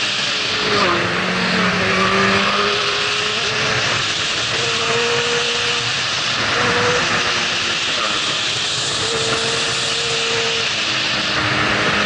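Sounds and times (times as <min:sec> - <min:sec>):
motorcycle engine revving: 0:00.0 - 0:12.0
wind rush on microphone: 0:00.0 - 0:12.0.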